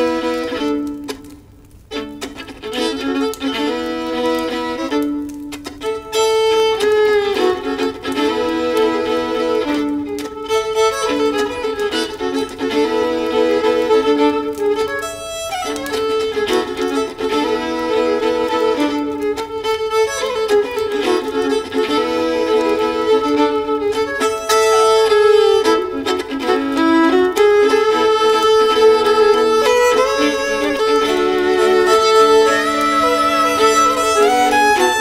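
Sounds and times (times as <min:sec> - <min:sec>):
violins playing in harmony: 0:00.0 - 0:35.0.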